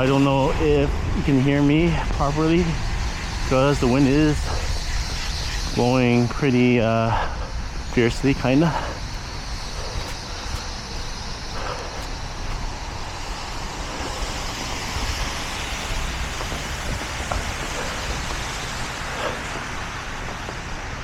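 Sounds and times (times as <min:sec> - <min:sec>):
low unsteady rumble: 0:00.0 - 0:19.9
traffic hiss on snowy street: 0:00.0 - 0:21.0
wind blowing across microphone: 0:00.0 - 0:21.0.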